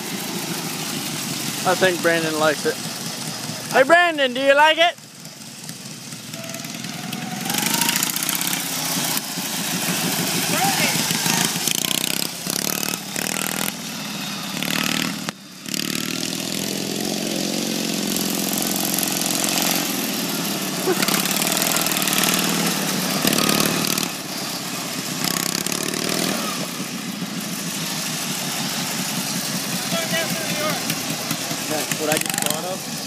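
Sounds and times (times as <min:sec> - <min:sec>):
lawn mower engine driving past: 0:00.0 - 0:33.0.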